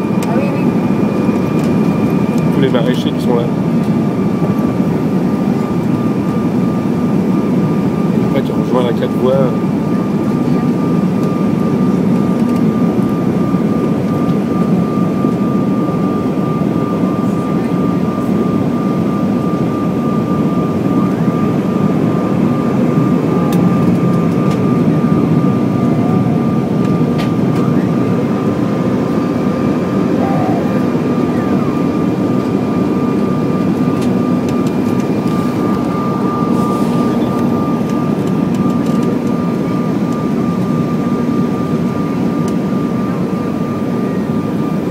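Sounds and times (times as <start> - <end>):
jet cabin roar: 0.0 - 44.9
steady high whine: 0.0 - 44.9.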